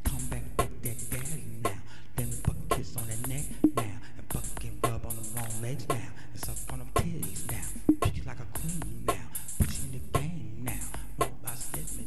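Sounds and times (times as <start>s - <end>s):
hip hop drum beat with hi-hats: 0.0s - 12.0s.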